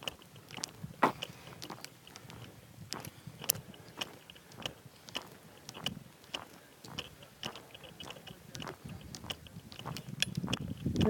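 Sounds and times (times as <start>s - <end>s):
footsteps crunching on cinders: 0.0s - 11.0s.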